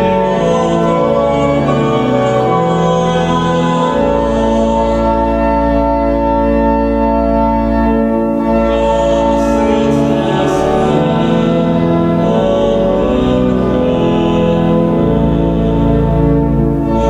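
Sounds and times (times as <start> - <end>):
church organ playing a hymn: 0.0 - 17.0.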